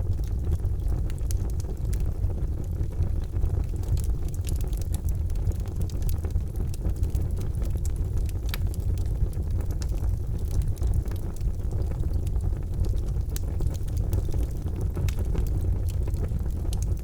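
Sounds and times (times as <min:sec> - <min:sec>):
charcoal fire crackling: 0:00.0 - 0:17.0
low fire rumble: 0:00.0 - 0:17.0.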